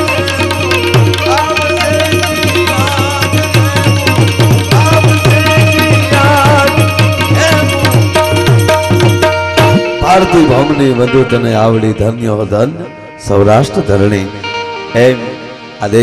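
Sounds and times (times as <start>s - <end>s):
banjo melody: 0.0s - 16.0s
harmonium: 0.0s - 16.0s
tabla playing a beat: 0.0s - 16.0s.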